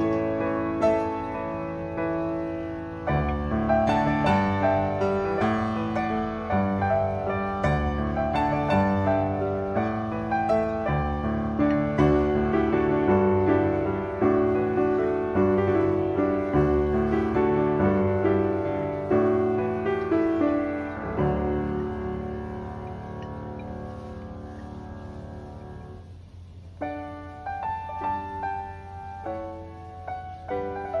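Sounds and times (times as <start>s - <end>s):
piano melody: 0.0s - 31.0s.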